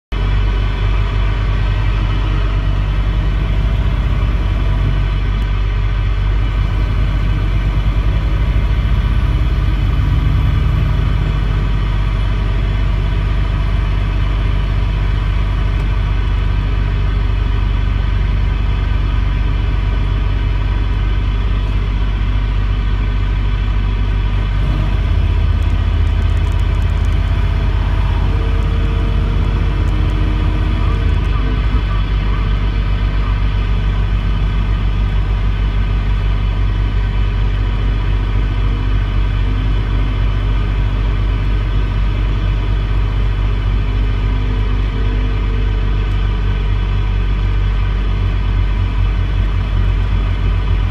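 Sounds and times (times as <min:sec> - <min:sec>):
car engine and tyre rumble: 0:00.0 - 0:50.9.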